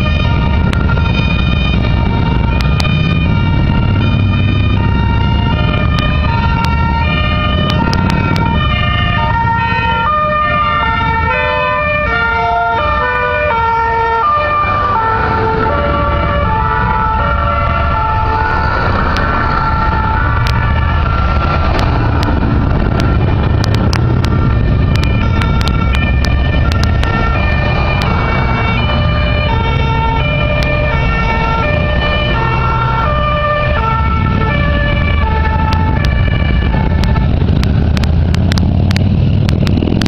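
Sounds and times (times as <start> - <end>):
fire engine two-tone sirens: 0.0 - 40.0
low rumble of engines: 0.0 - 40.0.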